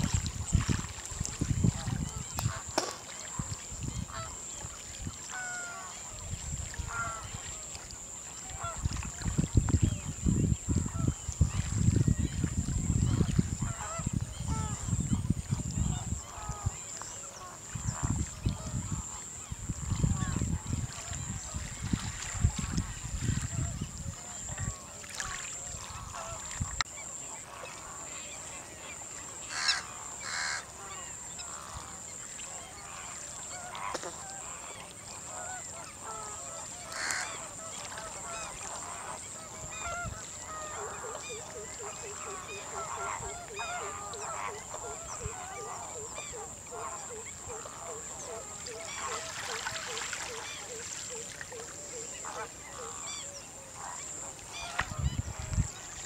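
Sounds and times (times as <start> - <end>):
waterbirds calling: 0.0 - 56.0.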